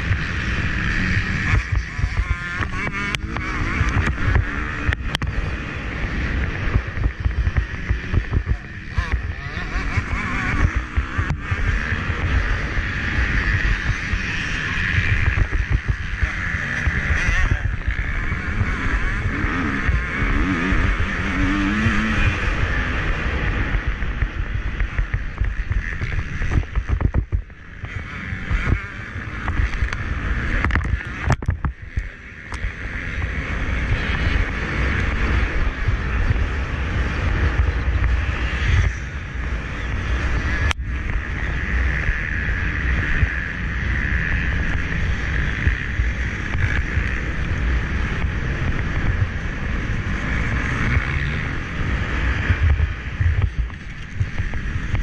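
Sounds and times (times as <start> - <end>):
motocross bike engine: 0.0 - 55.0
wind noise on microphone: 0.0 - 55.0.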